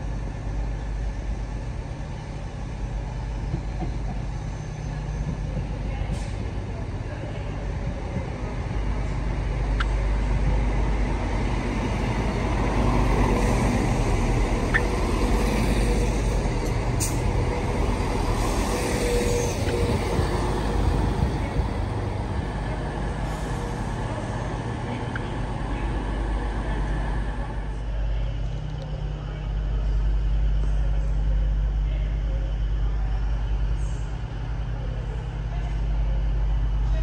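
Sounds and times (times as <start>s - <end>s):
diesel train engine rumbling: 0.0s - 37.0s.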